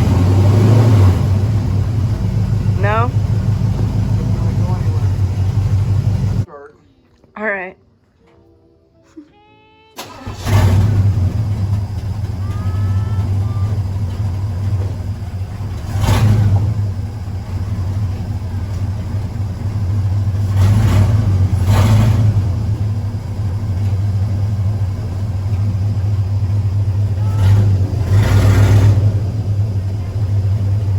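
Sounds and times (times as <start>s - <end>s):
pickup engine droning and revving: 0.0s - 6.5s, 10.0s - 30.9s.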